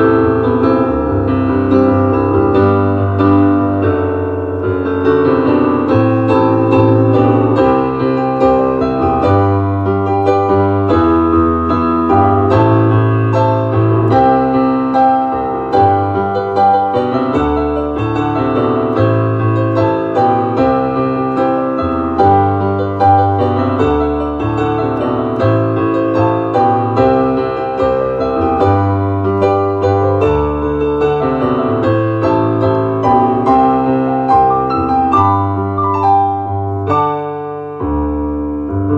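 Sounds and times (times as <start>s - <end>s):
piano ballad: 0.0s - 38.9s.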